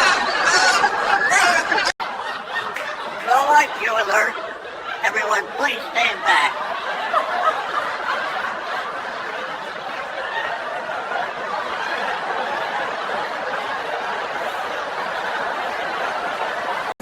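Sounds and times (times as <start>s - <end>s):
crowd laughing: 0.0s - 17.0s.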